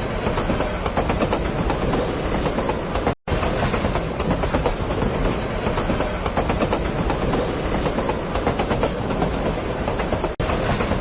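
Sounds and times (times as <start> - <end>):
train wheels clattering on rails: 0.0 - 11.0.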